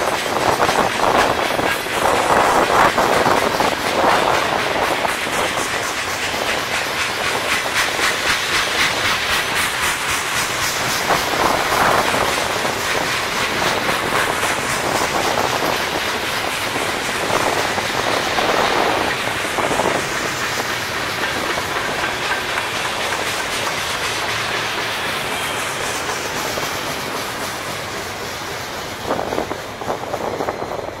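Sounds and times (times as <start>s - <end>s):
train wheels clicking over rail joints: 0.0s - 31.0s.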